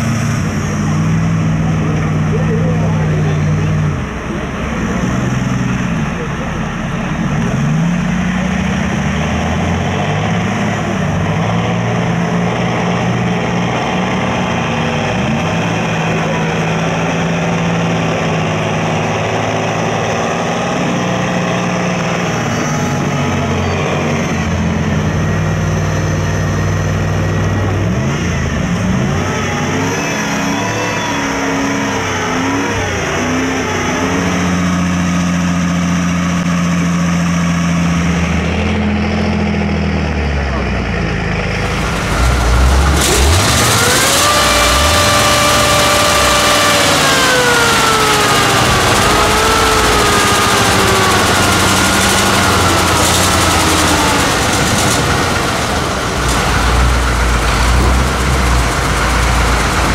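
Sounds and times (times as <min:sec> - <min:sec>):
truck engines revving in mud: 0:00.0 - 0:59.9.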